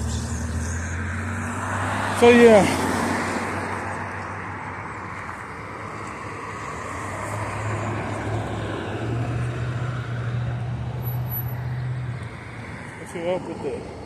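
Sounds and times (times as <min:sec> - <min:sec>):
vehicle engine low hum: 0:00.0 - 0:13.0
street traffic noise: 0:00.0 - 0:14.0.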